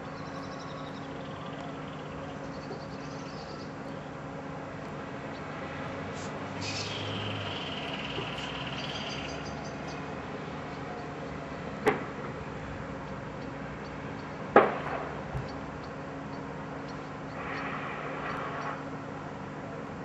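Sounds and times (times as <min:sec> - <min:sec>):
distant city traffic hum: 0:00.0 - 0:20.0.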